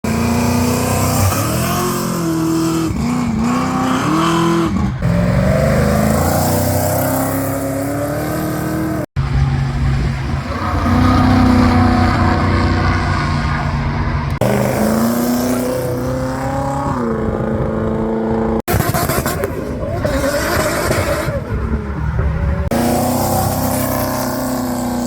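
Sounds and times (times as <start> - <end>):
car accelerating: 0.0 - 25.0
car engines revving: 0.0 - 25.0.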